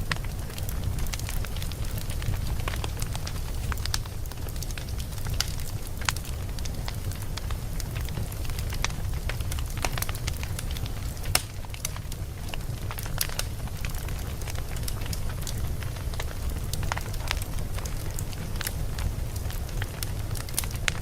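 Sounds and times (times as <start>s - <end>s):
fire rumbling: 0.0s - 21.0s
logs crackling and popping: 0.0s - 21.0s.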